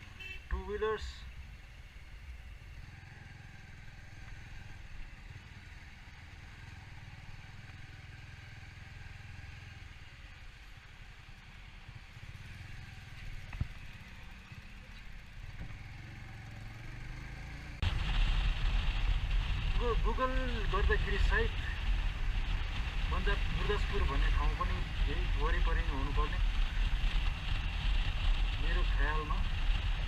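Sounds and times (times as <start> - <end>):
motorcycle engine rumbling: 0.0 - 30.0.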